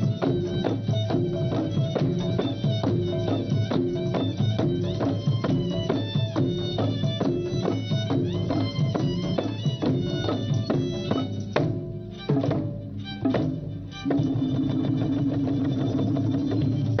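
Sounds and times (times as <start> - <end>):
bowed fiddle melody: 0.0 - 17.0
hand drums: 0.0 - 17.0.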